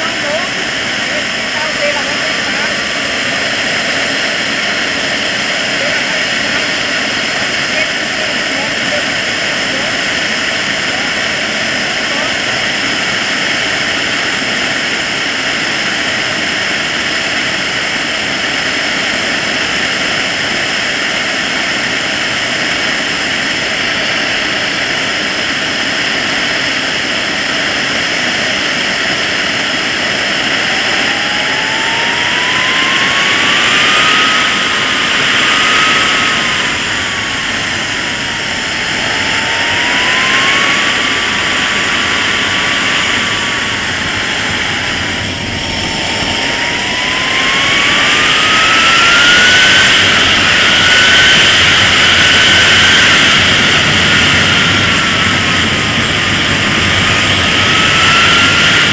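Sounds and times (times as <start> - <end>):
jet turbine whining: 0.0 - 58.9.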